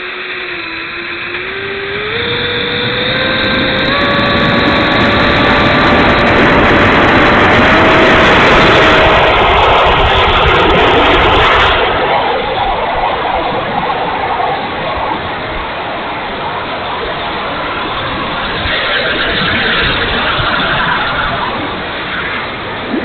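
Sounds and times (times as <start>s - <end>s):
electric fan whine: 0.0s - 23.0s
rushing air: 0.0s - 23.0s.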